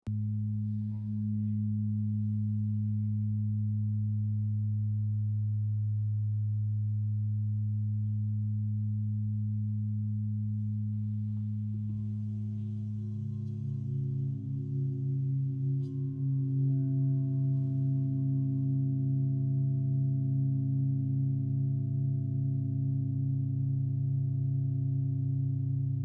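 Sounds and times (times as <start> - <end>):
deep steady drone tones: 0.0 - 26.0.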